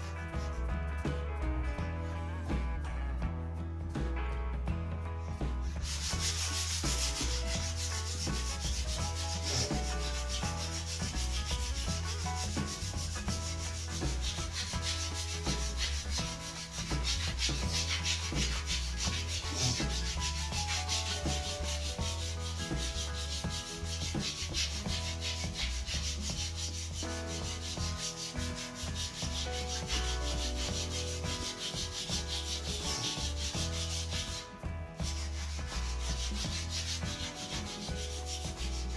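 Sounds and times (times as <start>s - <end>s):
sandpaper rubbing on wood: 0.0s - 0.6s, 5.6s - 38.9s.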